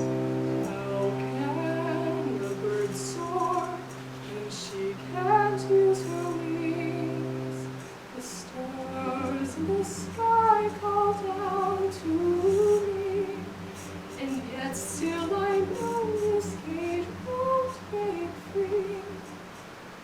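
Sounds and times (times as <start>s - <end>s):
woman singing slow melody: 0.0s - 19.5s
instrumental accompaniment: 0.0s - 19.8s.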